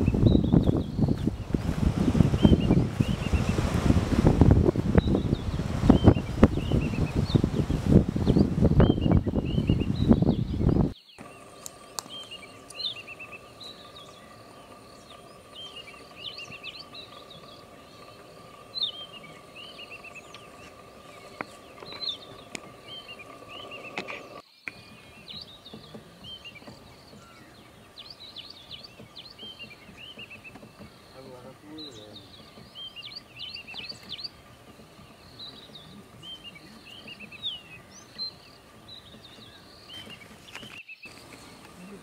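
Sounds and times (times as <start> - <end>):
birds chirping: 0.0 - 42.0
high insect hum: 0.0 - 42.0.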